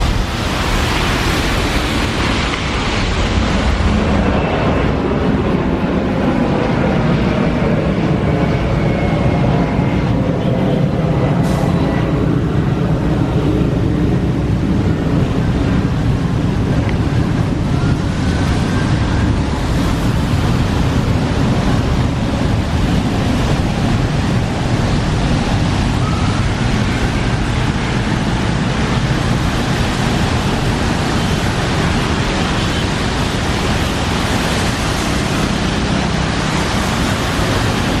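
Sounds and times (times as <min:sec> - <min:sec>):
jet engines at takeoff power: 0:00.0 - 0:38.0
wind buffeting microphone: 0:00.0 - 0:38.0.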